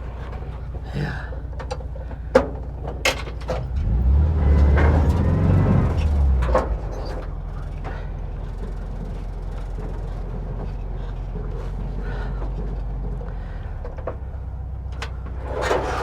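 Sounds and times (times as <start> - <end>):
clunks: 0.0 - 16.0
engine pulling hard then idling: 0.0 - 16.0.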